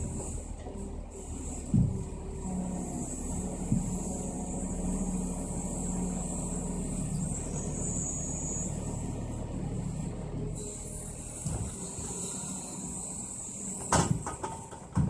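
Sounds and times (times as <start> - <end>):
diesel truck engine running: 0.0 - 15.0
hydraulic crane lifting logs: 0.0 - 15.0.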